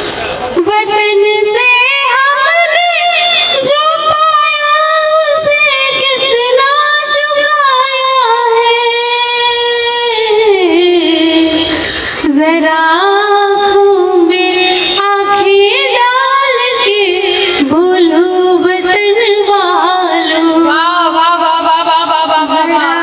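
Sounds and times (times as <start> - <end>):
woman singing into a microphone: 0.6 - 23.0.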